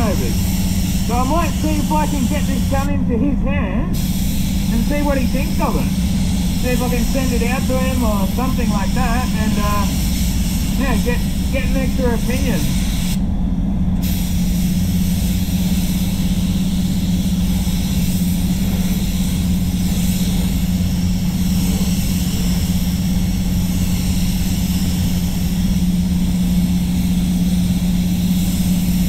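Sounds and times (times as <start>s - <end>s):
spray gun hissing: 0.0s - 3.0s, 3.9s - 13.2s, 14.0s - 29.0s
spray booth air system hum: 0.0s - 29.0s.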